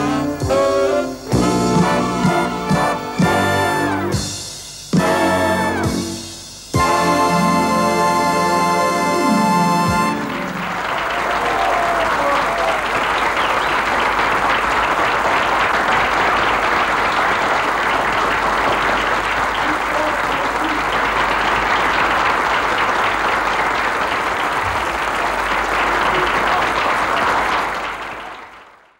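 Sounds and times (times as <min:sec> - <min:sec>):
audience applauding: 0:00.0 - 0:04.4, 0:06.8 - 0:28.9.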